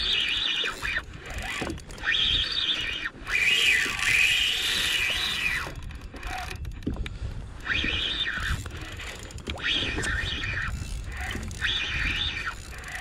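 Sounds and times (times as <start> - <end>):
fishing reel whining: 0.0 - 13.0.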